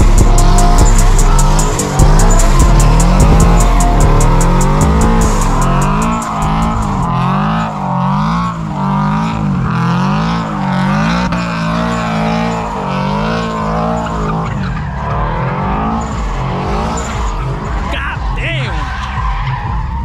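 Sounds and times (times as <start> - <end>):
tyres squealing: 0.0 - 8.0, 10.6 - 20.0
car engine revving: 0.0 - 20.0.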